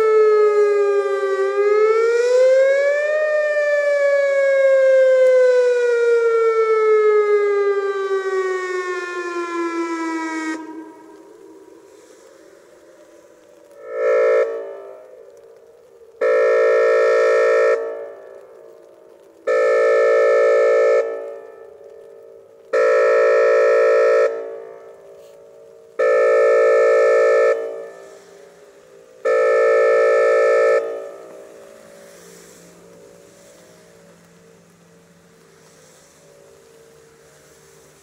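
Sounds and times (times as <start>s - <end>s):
siren horn blasts with echo: 0.0s - 15.6s, 16.2s - 37.6s.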